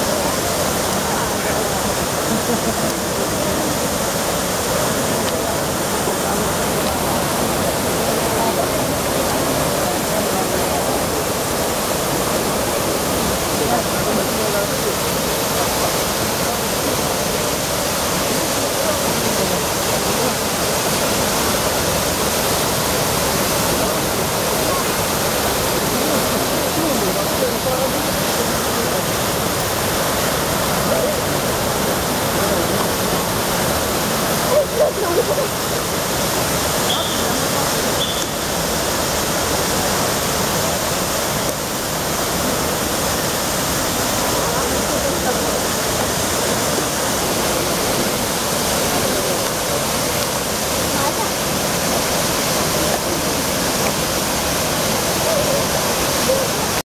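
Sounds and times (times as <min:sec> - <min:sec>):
fountain water splashing: 0:00.0 - 0:56.8.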